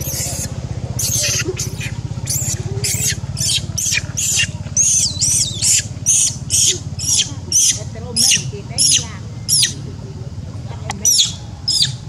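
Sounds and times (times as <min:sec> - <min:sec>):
young monkey squealing: 0:00.0 - 0:09.8, 0:11.0 - 0:12.0
steady low hum: 0:00.0 - 0:12.0.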